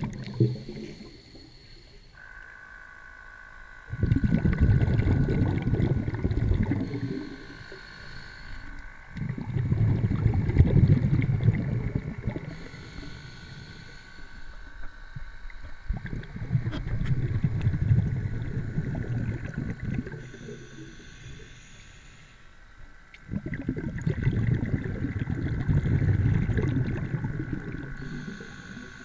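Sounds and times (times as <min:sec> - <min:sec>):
muffled underwater water rumble: 0:00.0 - 0:02.4, 0:03.7 - 0:21.8, 0:22.6 - 0:29.0.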